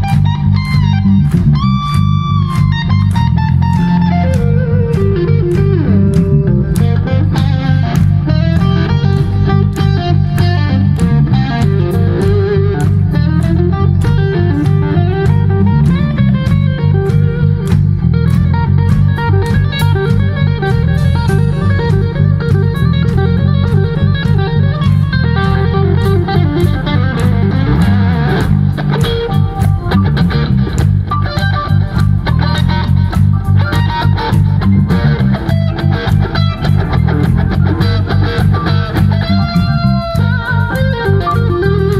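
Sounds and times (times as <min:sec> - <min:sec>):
electric guitar lead: 0:00.0 - 0:41.9
live band playing: 0:00.0 - 0:41.9
steady drum beat: 0:00.0 - 0:41.9.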